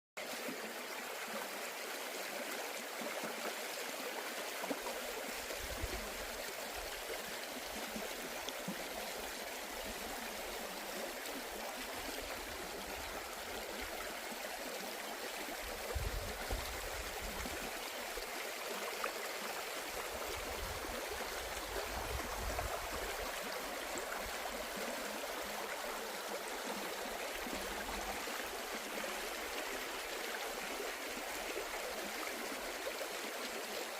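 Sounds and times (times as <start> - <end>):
stream flowing over rocks: 0.2 - 33.9.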